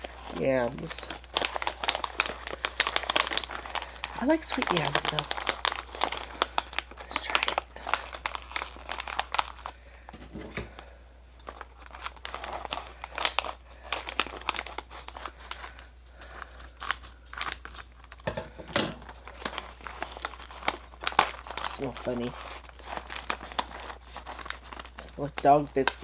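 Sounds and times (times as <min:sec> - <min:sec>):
plastic wrapper crinkling: 0:00.0 - 0:26.0.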